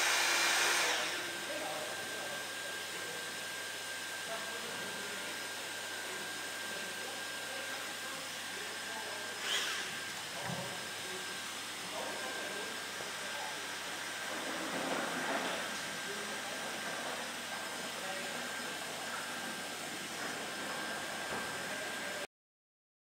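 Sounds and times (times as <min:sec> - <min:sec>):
hot-air blower hissing and whining: 0:00.0 - 0:22.3.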